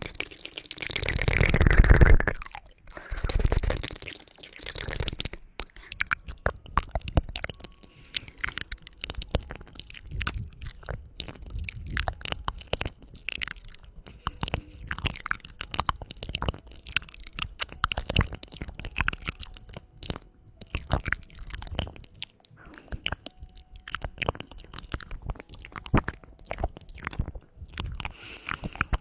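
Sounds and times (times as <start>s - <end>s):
tongue clicks: 0.0s - 29.0s
wet mouth noises: 0.0s - 29.0s.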